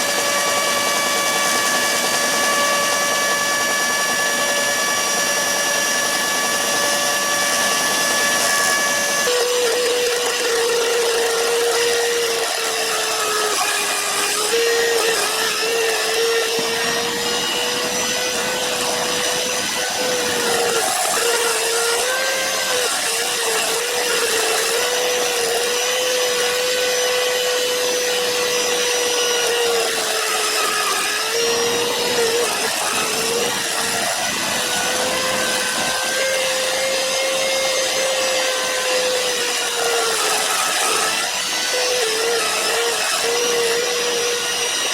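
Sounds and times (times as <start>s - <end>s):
grinder high whine: 0.0s - 44.9s.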